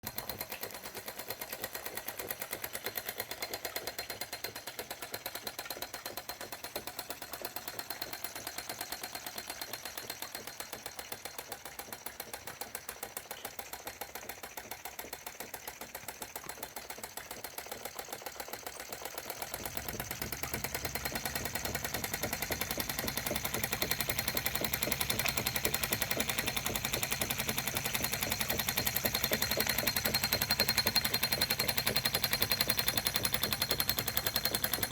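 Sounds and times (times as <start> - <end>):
toy steam engine ticking: 0.0 - 34.9.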